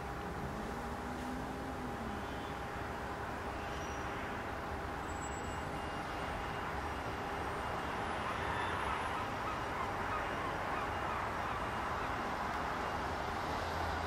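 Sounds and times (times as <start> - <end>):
faint steady tone: 0.0 - 14.0.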